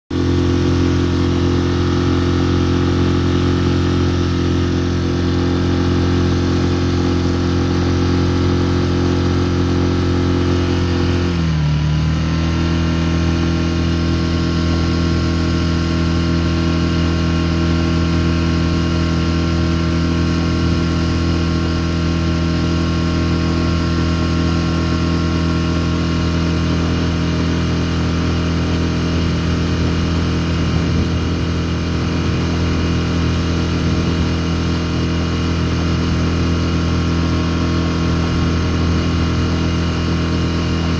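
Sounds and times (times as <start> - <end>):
outboard motor running: 0.1 - 40.9.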